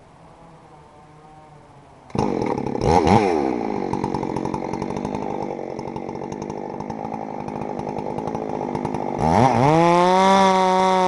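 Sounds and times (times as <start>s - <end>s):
chainsaw engine running: 2.1s - 11.0s.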